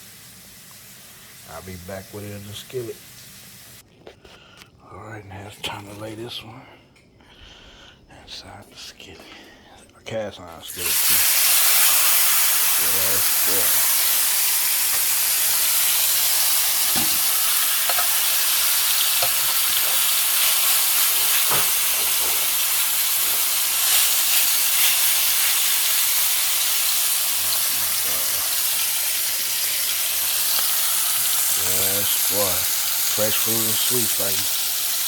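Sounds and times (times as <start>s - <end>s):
steak sizzling in a skillet: 0.0s - 3.8s, 10.7s - 35.0s.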